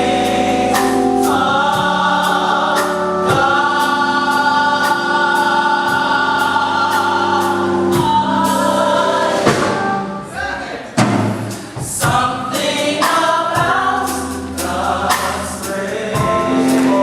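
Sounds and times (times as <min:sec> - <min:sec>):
drum and cymbal beat: 0:00.0 - 0:10.1, 0:11.0 - 0:17.0
band accompaniment: 0:00.0 - 0:17.0
gospel choir singing: 0:00.0 - 0:17.0.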